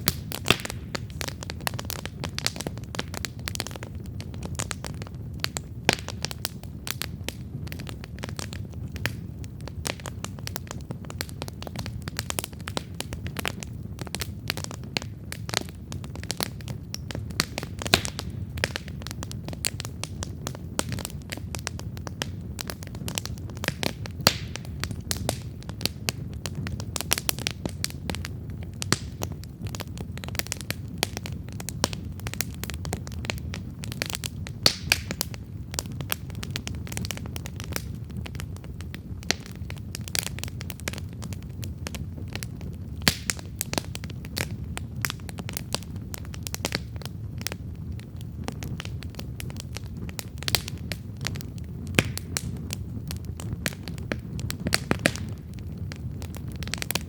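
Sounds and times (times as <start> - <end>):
campfire crackling: 0.0 - 57.0
fire popping: 0.0 - 57.0
low rumble of flames: 0.0 - 57.0.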